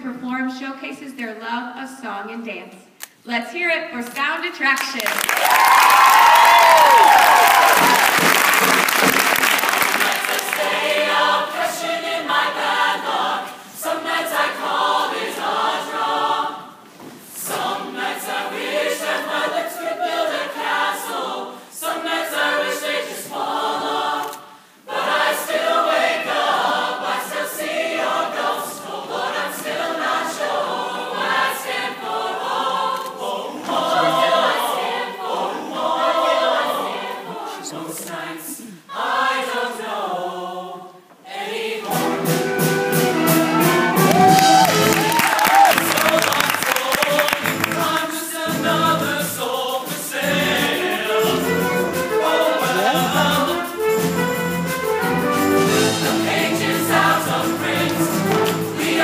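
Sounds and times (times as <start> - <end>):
choir singing: 6.1 - 59.0.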